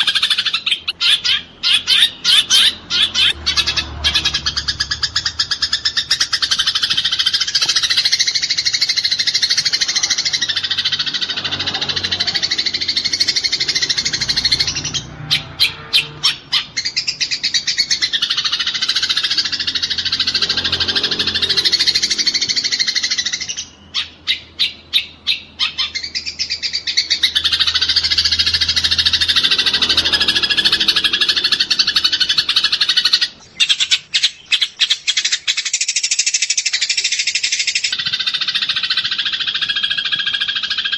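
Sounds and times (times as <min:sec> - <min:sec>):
sparrows chattering: 0:00.0 - 0:40.9.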